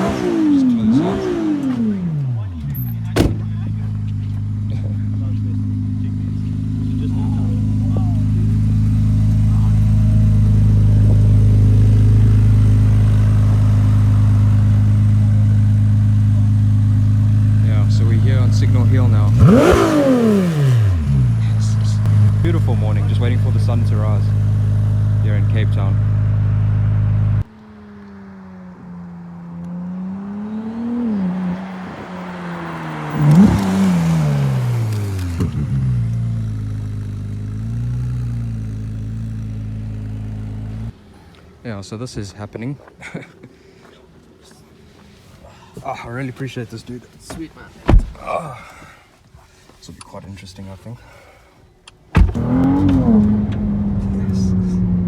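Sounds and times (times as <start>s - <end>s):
car engine droning: 0.0s - 43.3s, 43.9s - 55.0s.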